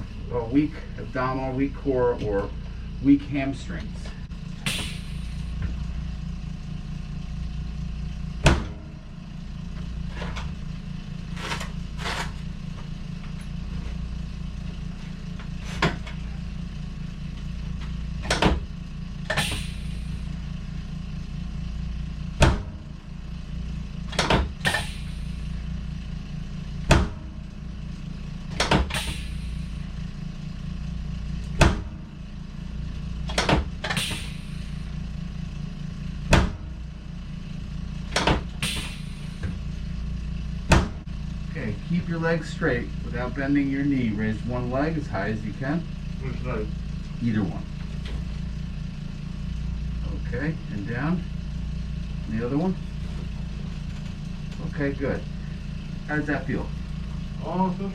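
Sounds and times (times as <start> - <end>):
low pulsing motor hum: 0.0 - 57.9.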